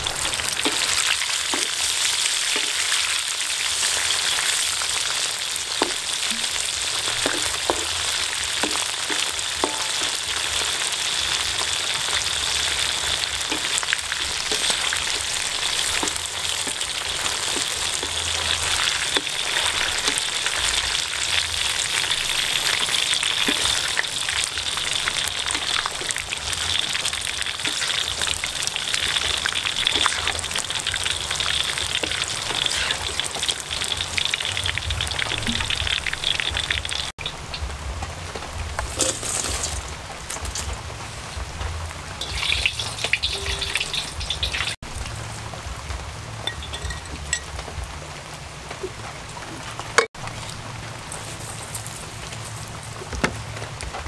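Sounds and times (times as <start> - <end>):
insects deep-frying in hot oil: 0.0 - 48.0.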